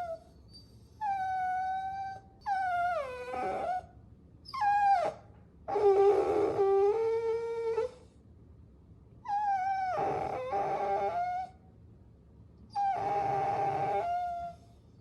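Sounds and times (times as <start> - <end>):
puppy whining: 0.0 - 8.1, 9.2 - 11.6, 12.7 - 15.0.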